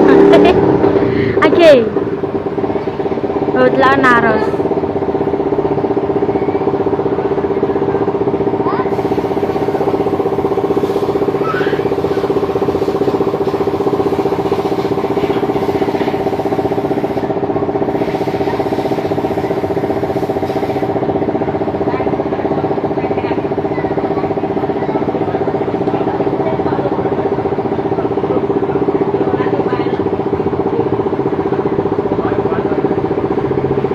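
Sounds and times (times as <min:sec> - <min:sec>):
engine droning steadily: 0:00.0 - 0:33.9.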